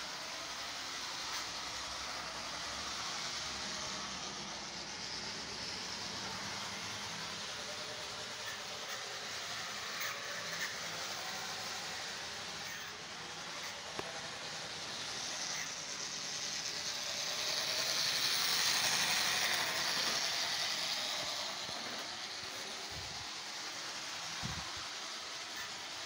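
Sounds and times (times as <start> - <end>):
model train whirring on rails: 0.0 - 26.0.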